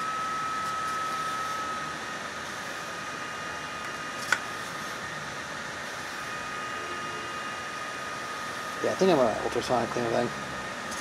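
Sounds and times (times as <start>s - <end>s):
faint high whine: 0.0s - 11.0s
fan-like background hiss: 0.0s - 11.0s.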